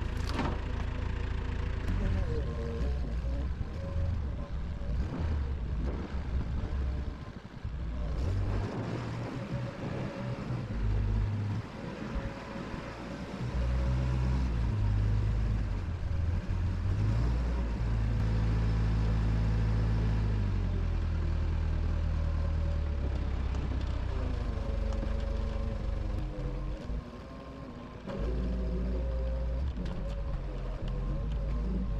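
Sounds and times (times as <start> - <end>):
engine running: 0.0 - 31.9.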